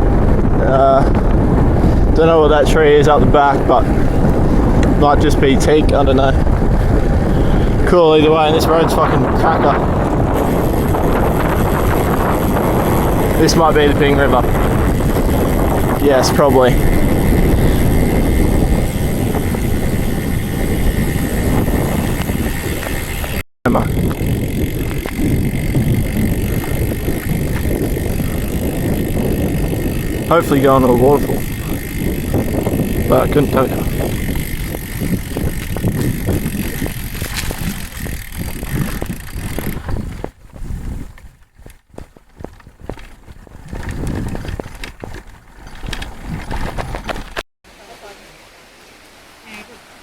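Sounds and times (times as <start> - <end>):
road rumble: 0.0 - 40.4
wind rushing over microphone: 0.0 - 47.4.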